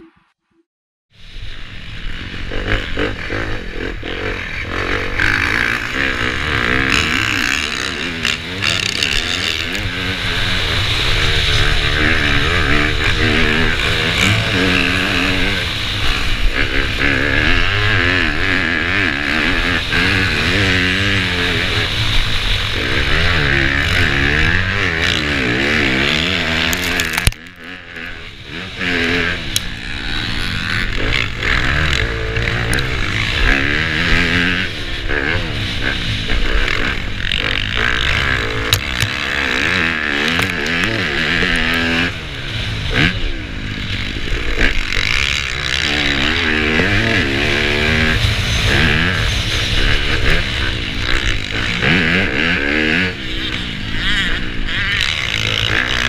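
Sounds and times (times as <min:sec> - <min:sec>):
motorcycle engine revving: 0:01.2 - 0:56.0.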